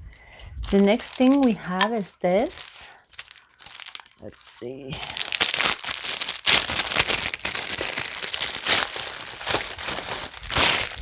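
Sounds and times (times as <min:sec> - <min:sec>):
packaging crinkling and rustling: 0:00.5 - 0:11.0.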